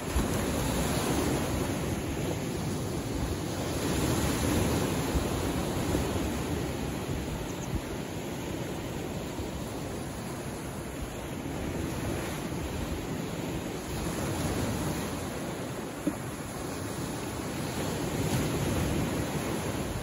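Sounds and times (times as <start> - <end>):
surf washing over rocks: 0.0 - 20.0.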